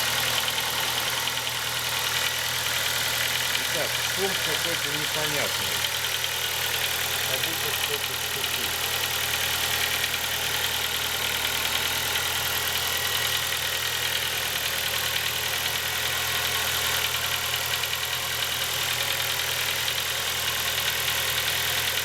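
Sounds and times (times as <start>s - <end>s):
car engine idling: 0.0s - 22.0s
rapid engine knocking: 0.0s - 22.0s.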